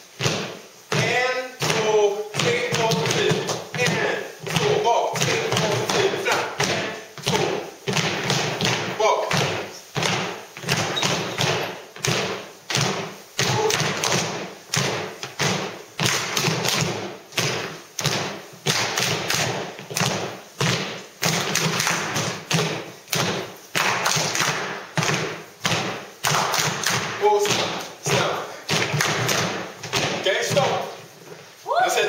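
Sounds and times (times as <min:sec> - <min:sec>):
feet stamping on wooden floor: 0:00.2 - 0:31.5.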